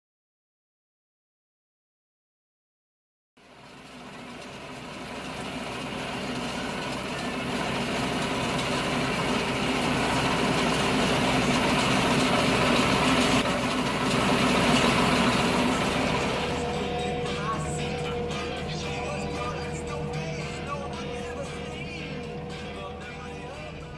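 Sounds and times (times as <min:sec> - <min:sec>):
tractor diesel engine running: 0:03.4 - 0:23.9.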